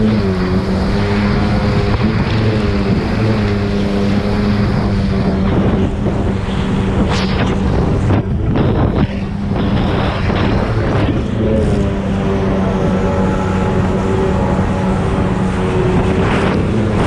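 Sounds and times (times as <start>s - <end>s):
jet ski engine running: 0.0s - 17.0s
rushing water: 0.0s - 17.0s
wind on microphone: 0.0s - 17.0s.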